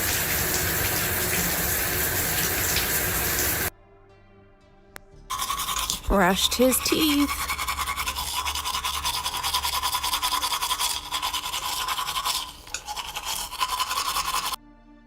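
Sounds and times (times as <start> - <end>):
toothbrush scrubbing teeth: 0.0 - 3.7, 5.3 - 14.6.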